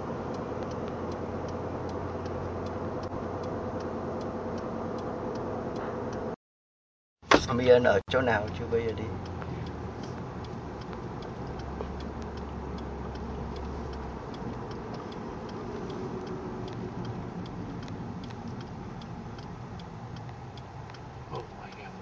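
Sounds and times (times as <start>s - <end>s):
car engine and road noise: 0.0s - 6.4s, 7.2s - 22.0s
light regular ticking: 0.0s - 6.4s, 7.5s - 22.0s.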